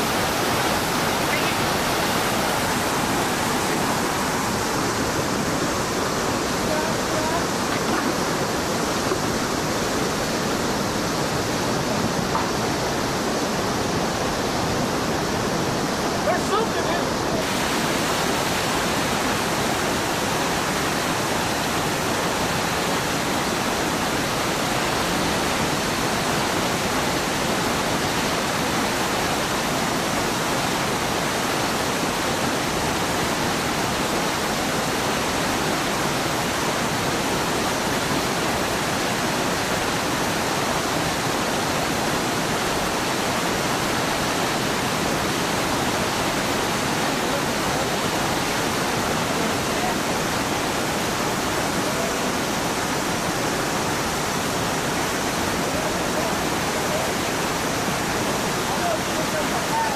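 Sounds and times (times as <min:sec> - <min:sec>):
whitewater rushing down creek: 0:00.0 - 0:59.9.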